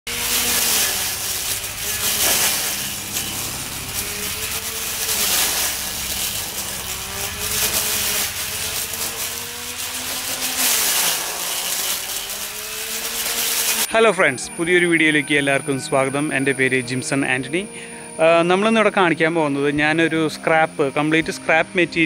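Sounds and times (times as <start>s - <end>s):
lawn mower motor whine: 0.0s - 22.0s
mower cutting grass: 0.1s - 22.0s.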